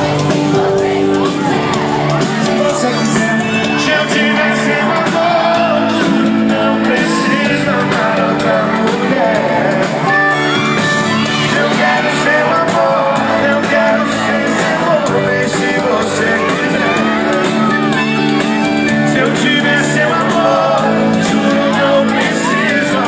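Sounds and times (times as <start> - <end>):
live band with singer: 0.0 - 23.0.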